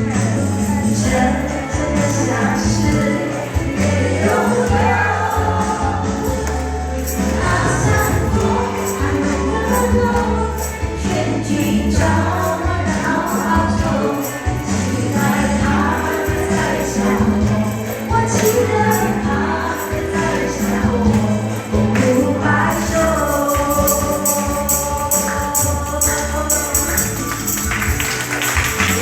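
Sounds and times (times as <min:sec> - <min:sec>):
instrumental pop backing track: 0:00.0 - 0:29.0.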